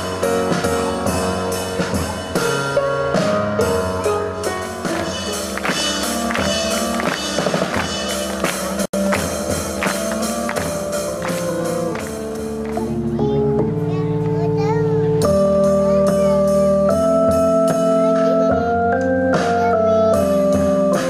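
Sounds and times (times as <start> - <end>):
drum kit steady beat: 0.0 - 13.4, 15.2 - 21.0
band music: 0.0 - 21.0.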